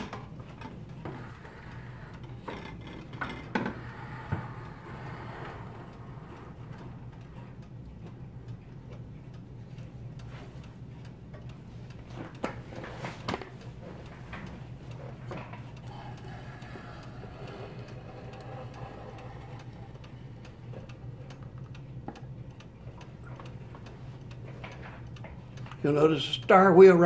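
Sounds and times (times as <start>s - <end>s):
clock ticking: 0.0s - 27.0s.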